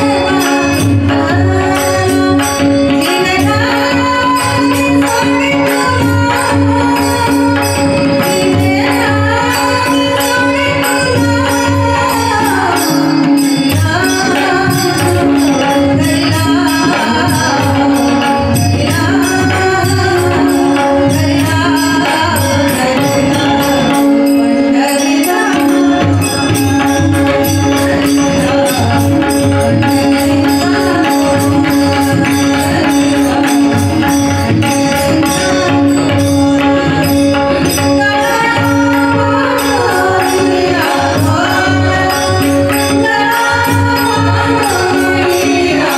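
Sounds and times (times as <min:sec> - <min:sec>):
woman singing: 0:00.0 - 0:45.9.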